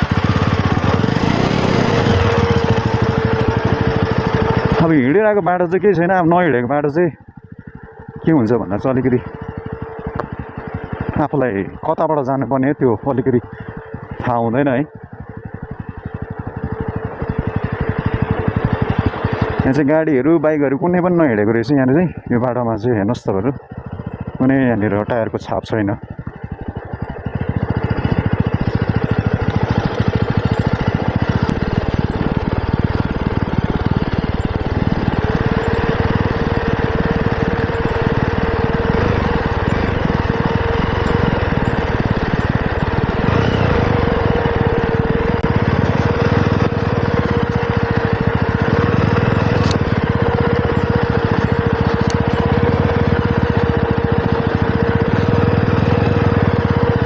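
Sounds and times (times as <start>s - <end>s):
motorcycle engine whining: 0.0s - 57.0s.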